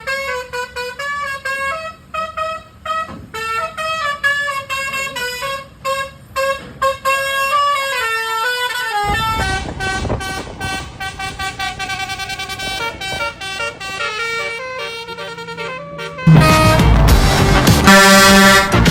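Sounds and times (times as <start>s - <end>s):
low vehicle noise: 0.0s - 18.9s
truck musical horn tune: 0.0s - 18.9s.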